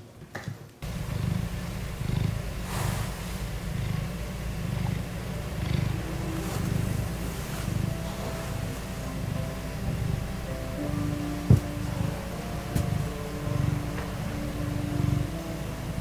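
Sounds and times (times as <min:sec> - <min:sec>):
cat purring: 0:00.8 - 0:16.0.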